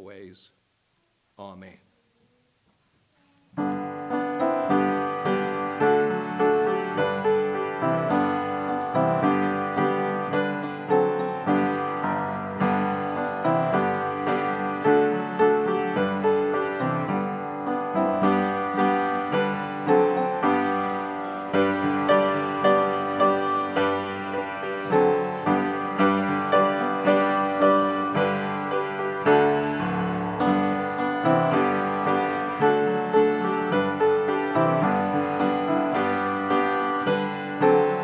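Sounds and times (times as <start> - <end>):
piano playing: 3.5 - 38.0.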